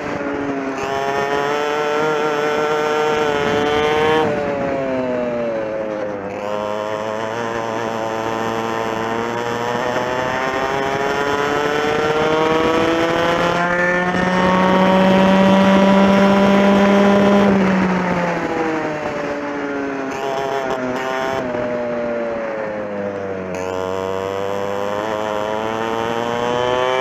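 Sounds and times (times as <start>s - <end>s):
kart engine accelerating: 0.0s - 27.0s
second kart engine: 0.0s - 27.0s.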